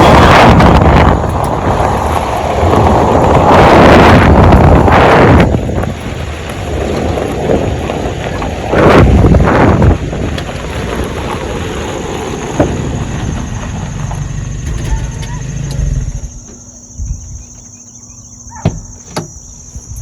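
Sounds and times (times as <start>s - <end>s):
low vehicle rumble: 0.0s - 20.0s
wind buffeting microphone: 0.0s - 20.0s.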